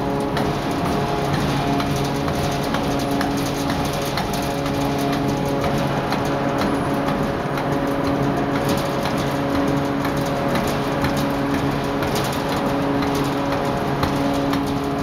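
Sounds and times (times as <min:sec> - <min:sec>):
forging machine hum: 0:00.0 - 0:15.0
machine rattling: 0:00.0 - 0:15.0.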